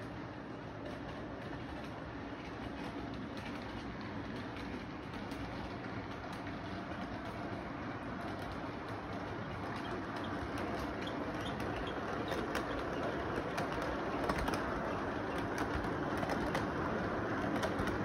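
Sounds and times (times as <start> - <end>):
toy train rumbling whir: 0.0 - 18.0
wheels clicking on plastic track: 0.0 - 18.0.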